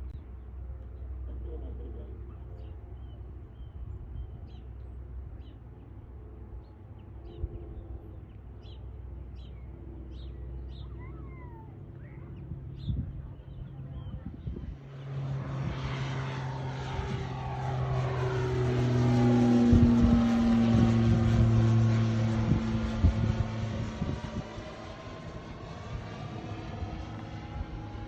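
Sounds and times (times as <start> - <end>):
light aircraft motor and propeller hum: 0.0 - 28.0.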